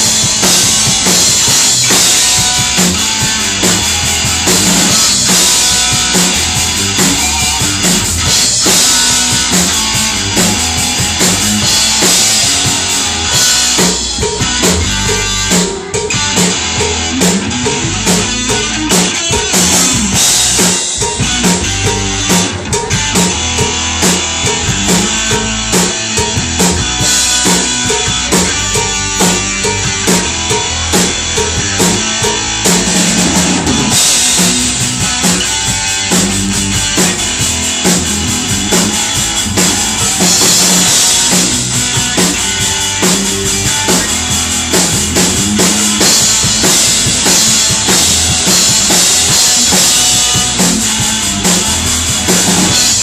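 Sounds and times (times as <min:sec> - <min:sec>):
drum kit beat: 0:00.0 - 0:53.0
electric bass: 0:00.0 - 0:53.0
electric guitar: 0:00.0 - 0:53.0.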